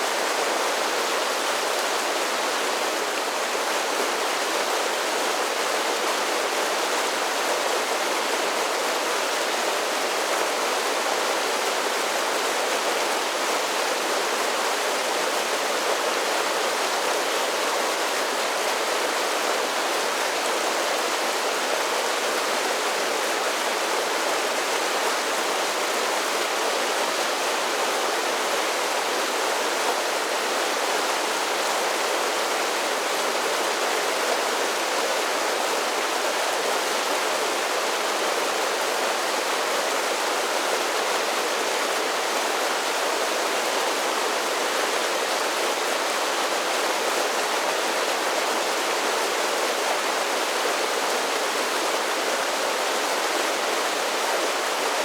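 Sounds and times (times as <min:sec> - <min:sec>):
creek pouring over small waterfalls: 0:00.0 - 0:55.0.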